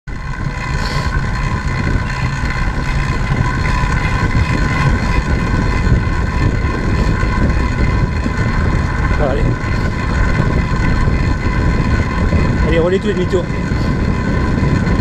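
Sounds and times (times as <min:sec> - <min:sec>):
bike tyres rumbling on wooden boards: 0:00.1 - 0:15.0
steady whine: 0:00.1 - 0:15.0
wind on microphone: 0:00.1 - 0:15.0.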